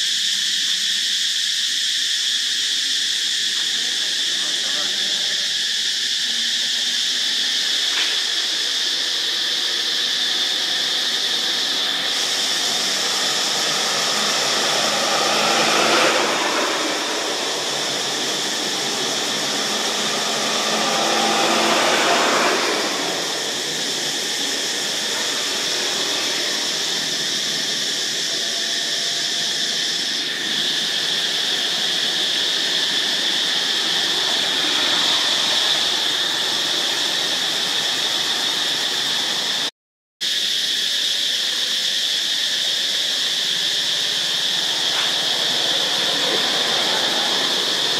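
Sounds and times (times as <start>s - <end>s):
insects calling in chorus: 0.0s - 47.9s
broad rushing noise: 6.2s - 39.7s, 42.8s - 47.9s.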